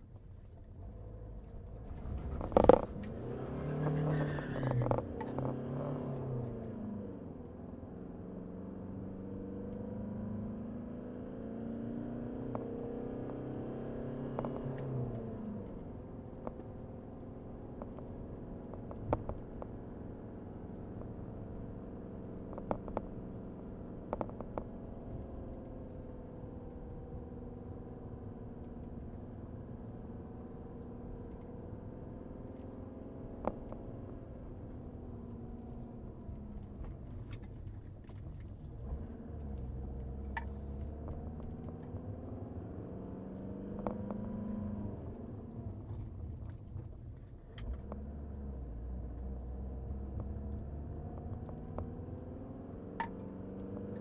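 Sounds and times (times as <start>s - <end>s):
diesel engine inside car cabin: 0.0s - 54.0s.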